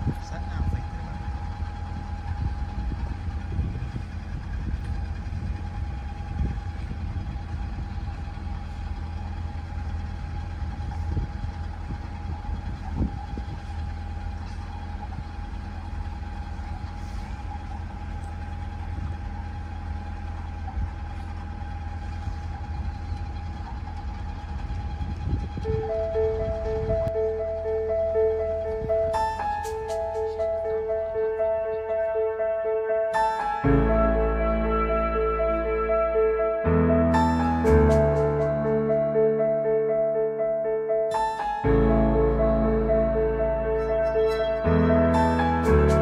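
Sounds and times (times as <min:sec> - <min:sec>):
boat diesel engine running: 0:00.0 - 0:46.0.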